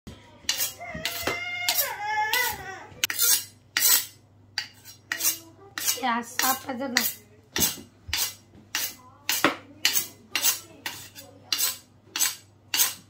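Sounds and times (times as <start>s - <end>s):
knife scraping on honing steel: 0.5s - 13.0s.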